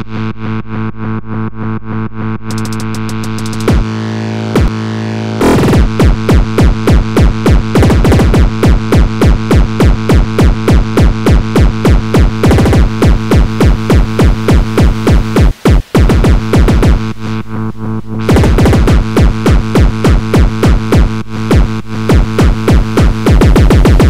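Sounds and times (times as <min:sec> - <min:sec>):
distorted kick drum: 0:00.0 - 0:24.0
distorted synth chords: 0:00.0 - 0:24.0.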